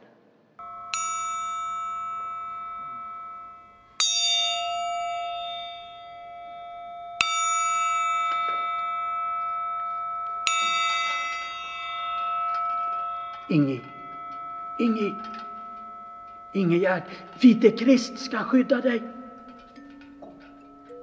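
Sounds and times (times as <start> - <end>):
bell ringing: 0.6 - 21.0.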